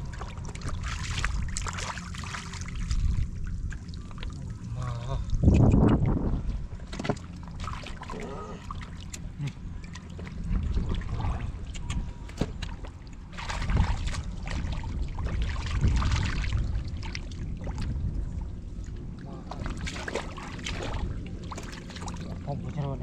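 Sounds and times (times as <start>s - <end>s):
low rumble: 0.0s - 23.0s
muddy water splashing: 0.0s - 23.0s.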